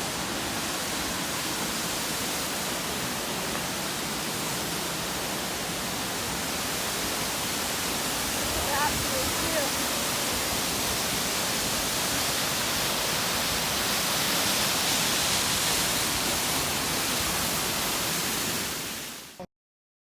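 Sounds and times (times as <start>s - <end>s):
waterfall rushing: 0.0s - 19.5s.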